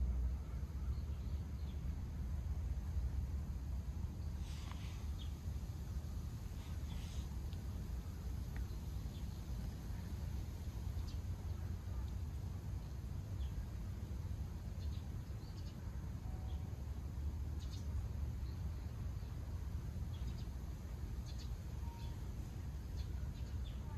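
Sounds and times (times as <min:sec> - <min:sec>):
high chirps of birds or insects: 0:00.0 - 0:23.9
steady low rumble: 0:00.0 - 0:23.9.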